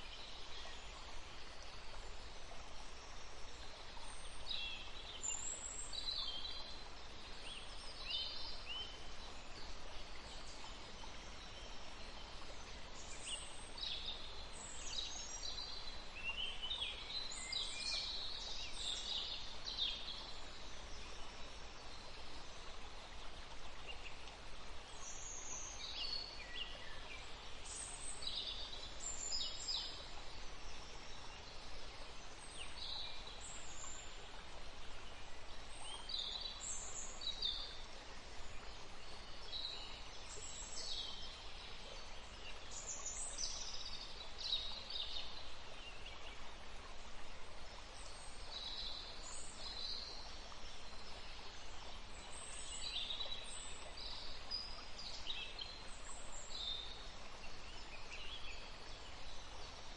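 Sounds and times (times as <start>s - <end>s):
faint background noise: 0.0s - 59.9s.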